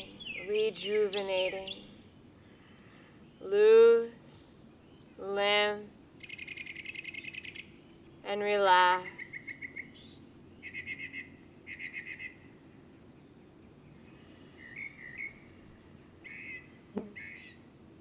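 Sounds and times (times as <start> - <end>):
birds chirping and trilling: 0.0 - 4.0, 4.6 - 17.8.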